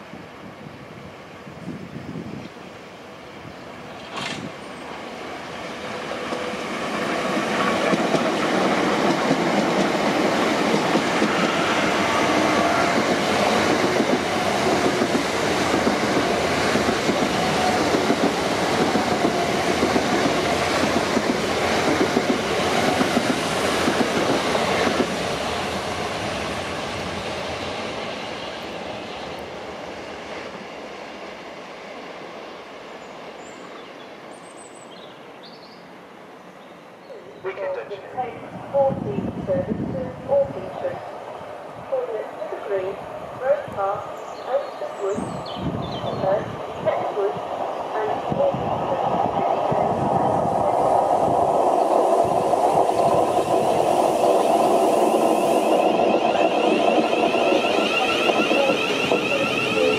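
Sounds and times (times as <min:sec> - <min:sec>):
train passing at speed: 0:00.0 - 0:59.9.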